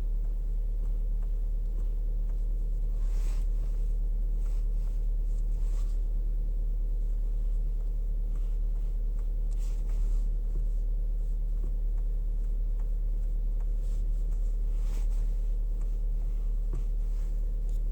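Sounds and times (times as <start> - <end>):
low hum: 0.0 - 17.9.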